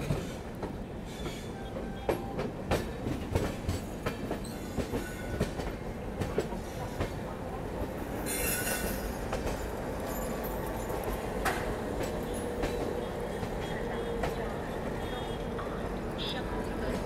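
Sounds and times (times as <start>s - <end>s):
train wheels clacking over rail joints: 0.0s - 7.4s, 8.2s - 15.8s.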